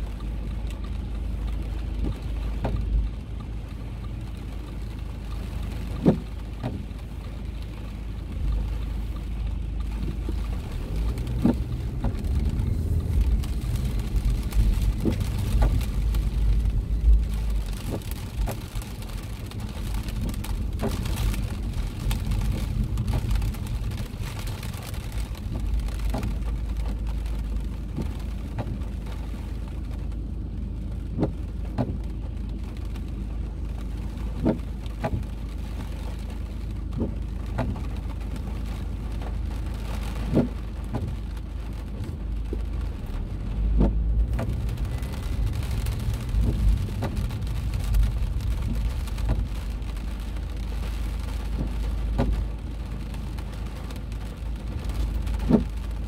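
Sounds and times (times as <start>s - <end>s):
car low rumble: 0.0s - 56.0s
raindrops tapping on car: 0.0s - 56.0s.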